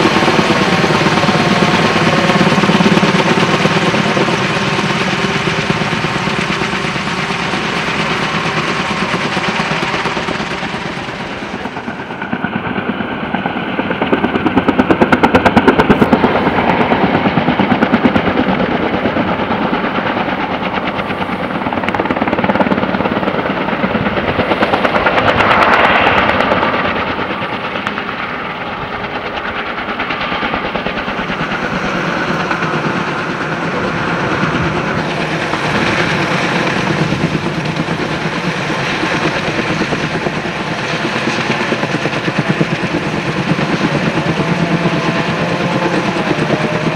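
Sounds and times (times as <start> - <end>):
helicopter rotors chopping: 0.0 - 46.9.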